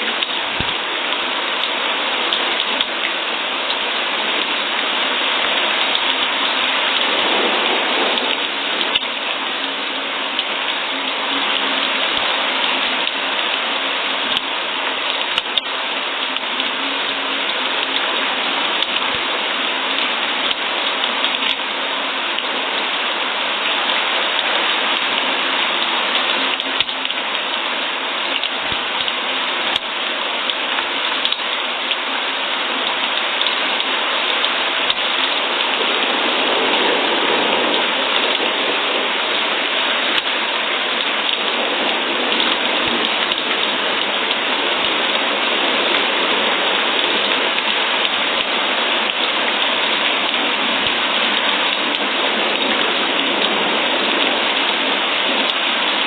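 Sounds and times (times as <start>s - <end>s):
faint raindrop ticks: 0.0s - 56.0s
steady rain hiss: 0.0s - 56.0s.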